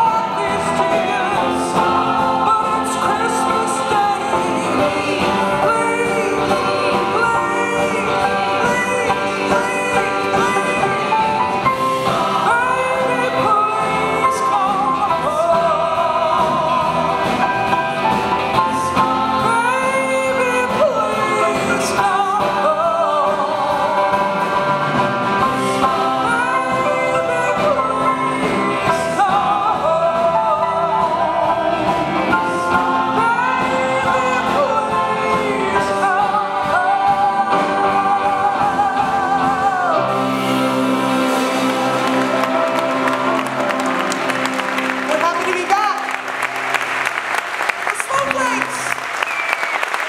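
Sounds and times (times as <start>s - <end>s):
woman singing: 0.0s - 43.0s
backing singers: 0.0s - 50.0s.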